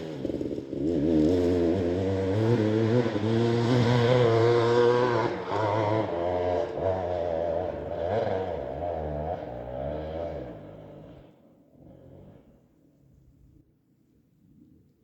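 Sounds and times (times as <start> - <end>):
off-road vehicle engine revving: 0.0 - 12.6.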